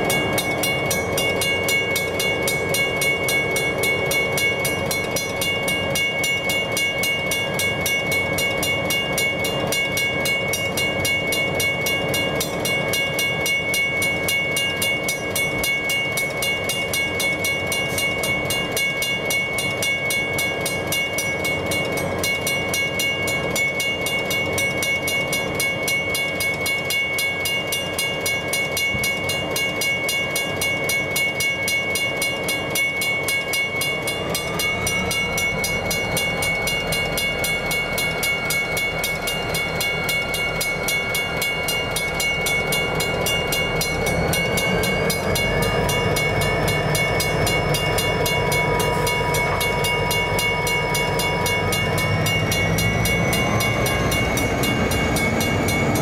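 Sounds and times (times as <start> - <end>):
diesel locomotive running: 0.0 - 56.0
level crossing bell ringing: 0.0 - 56.0.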